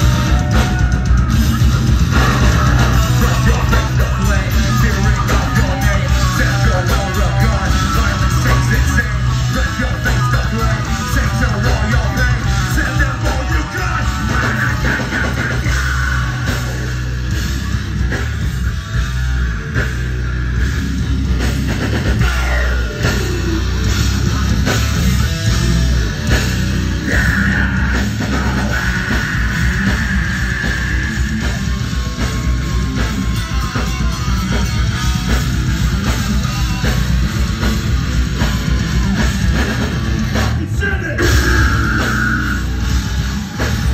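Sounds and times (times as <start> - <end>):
bass guitar: 0.0 - 43.9
distorted electric guitars: 0.0 - 43.9
drum kit: 0.0 - 43.9.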